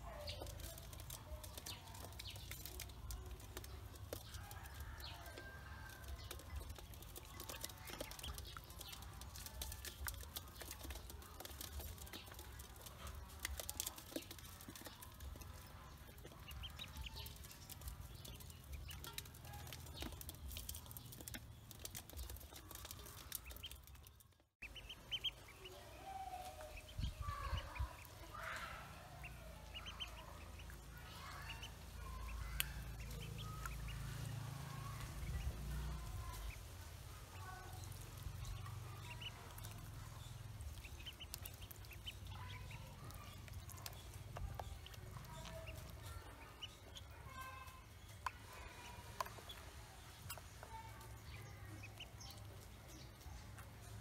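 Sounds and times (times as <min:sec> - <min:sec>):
beaks tapping metal bowl: 0:00.0 - 0:36.6, 0:37.4 - 0:53.7
ducklings peeping: 0:00.0 - 0:54.0.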